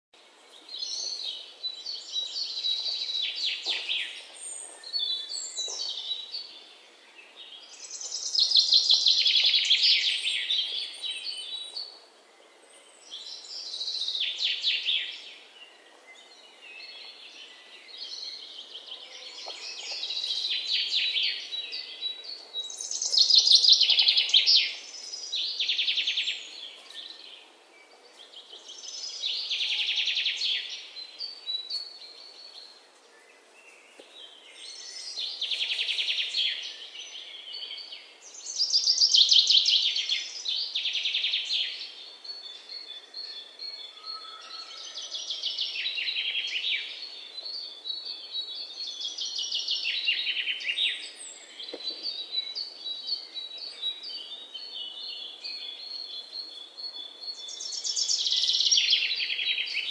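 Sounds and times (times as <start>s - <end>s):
small birds chirping: 0.3s - 59.9s.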